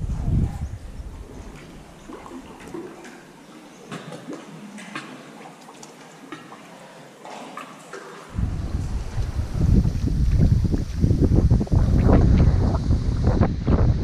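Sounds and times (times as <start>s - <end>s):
water dripping and splashing: 1.1s - 12.8s.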